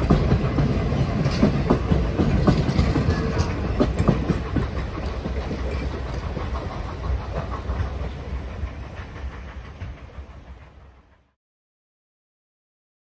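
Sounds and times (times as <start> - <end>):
wheels clacking over rail joints: 0.0 - 10.9
train rumble: 0.0 - 11.4.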